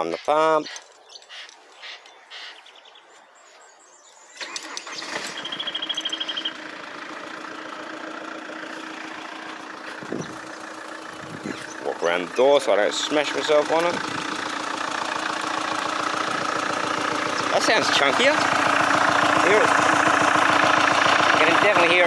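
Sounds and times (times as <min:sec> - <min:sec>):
diesel engine idling: 0:04.3 - 0:22.0
starter cranking engine: 0:04.3 - 0:22.0.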